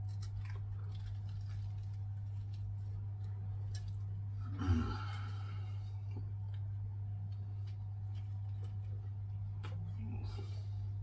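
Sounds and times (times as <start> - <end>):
man chewing: 0.0 - 10.9
low hum: 0.0 - 11.0.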